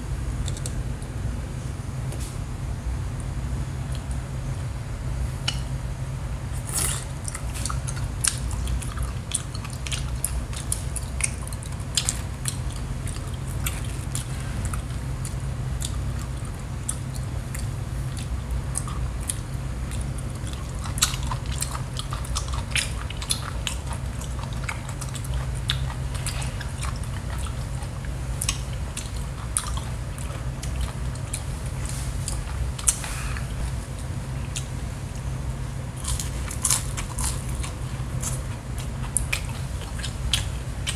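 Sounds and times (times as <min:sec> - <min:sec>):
steady low hum: 0:00.0 - 0:40.9
person chewing wetly: 0:00.4 - 0:00.8, 0:06.6 - 0:40.9.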